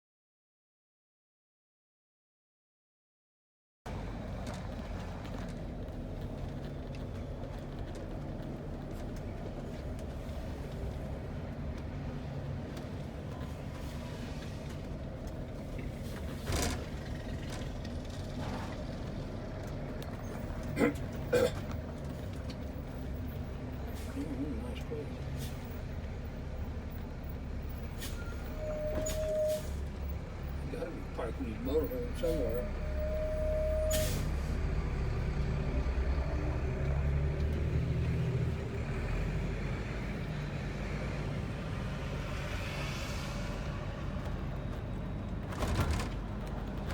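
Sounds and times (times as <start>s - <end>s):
engine and road rumble in cabin: 3.9s - 46.9s.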